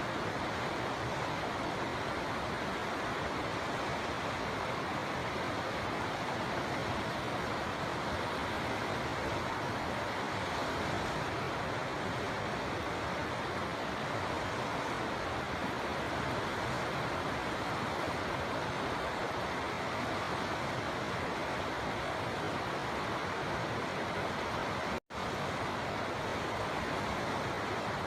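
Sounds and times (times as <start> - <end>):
river water flowing: 0.0 - 28.0.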